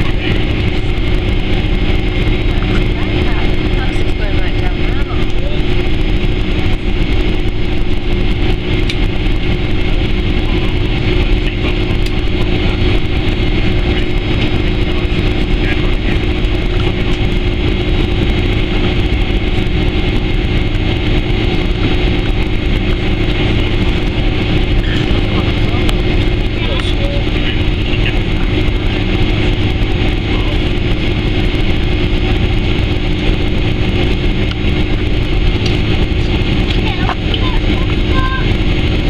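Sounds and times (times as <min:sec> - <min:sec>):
jet engine cabin noise: 0:00.0 - 0:39.0
low hum: 0:00.0 - 0:39.0.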